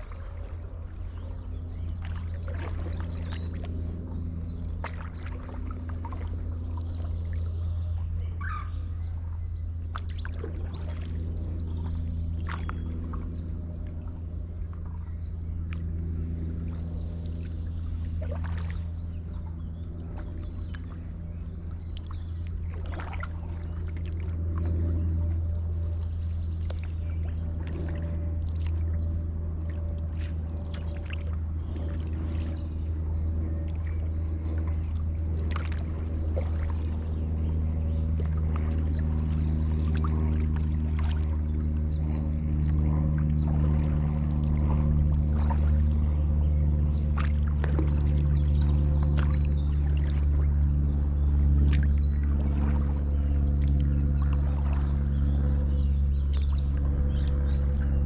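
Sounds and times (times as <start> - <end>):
low rumble and hum: 0.0 - 58.0
paddle splashing through water: 0.0 - 58.0.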